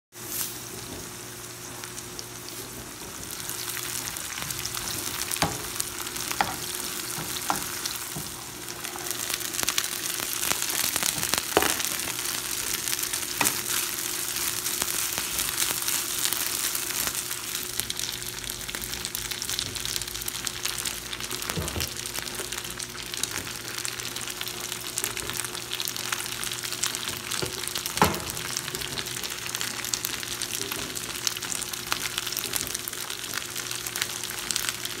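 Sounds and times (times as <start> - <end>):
onions and rice sizzling in oil: 0.1 - 35.0.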